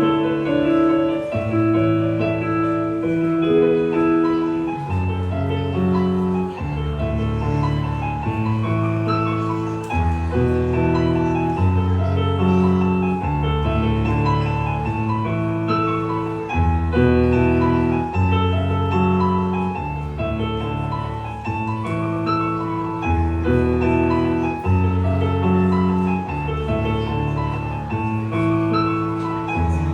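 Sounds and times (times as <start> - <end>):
slow solo piano piece: 0.0 - 29.9.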